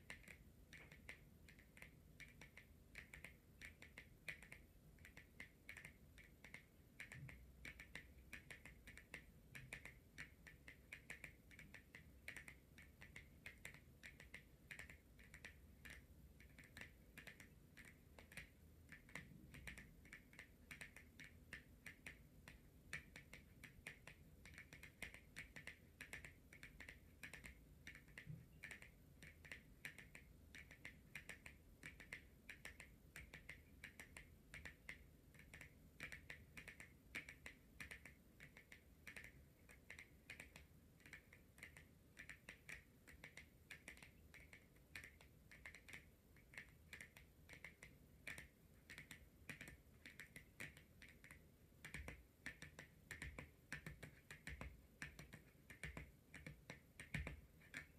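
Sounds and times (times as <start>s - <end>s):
fingernails tapping on a card: 0.0s - 57.9s.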